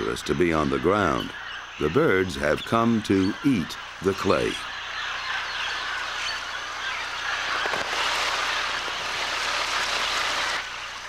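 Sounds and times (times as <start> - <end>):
flock of parrots calling: 0.0 - 11.0.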